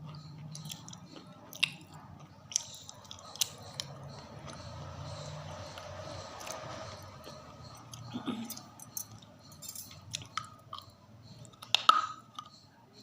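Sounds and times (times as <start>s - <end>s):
chewing and crunching: 0.0s - 12.7s.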